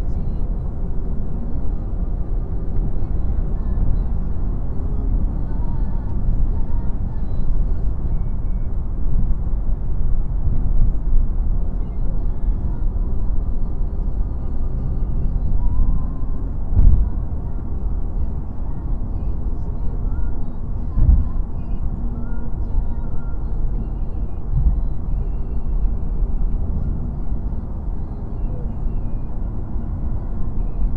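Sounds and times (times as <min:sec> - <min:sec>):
car cabin road and engine noise: 0:00.0 - 0:30.9.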